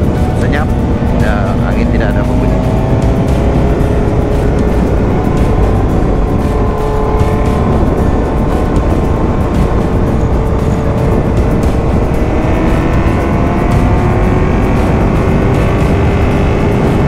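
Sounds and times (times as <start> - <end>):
motorcycle engine running: 0.0 - 17.0
wind noise over microphone: 0.0 - 17.0.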